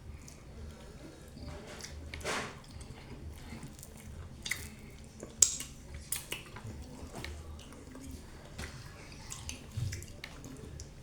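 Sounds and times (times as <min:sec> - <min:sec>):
soft wet chewing: 0:00.0 - 0:11.0.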